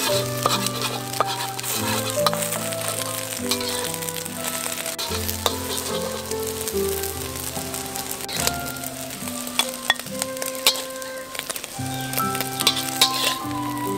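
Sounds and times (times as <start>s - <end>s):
metal spatula scraping: 0.0s - 7.0s, 9.5s - 13.9s
eggs sizzling in oil: 0.0s - 13.9s
gentle background music: 0.0s - 13.9s.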